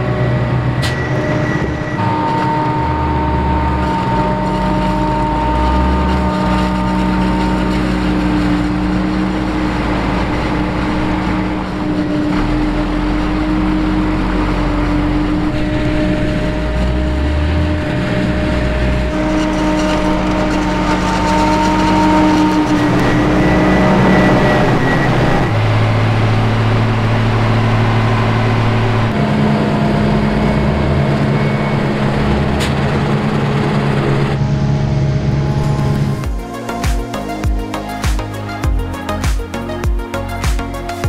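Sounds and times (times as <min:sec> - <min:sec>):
diesel engines under load: 0:00.0 - 0:41.0.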